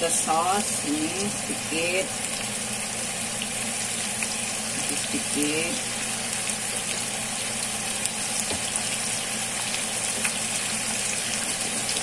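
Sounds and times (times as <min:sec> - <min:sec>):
chicken sizzling in a wok: 0:00.0 - 0:12.0
low steady hum: 0:00.0 - 0:12.0.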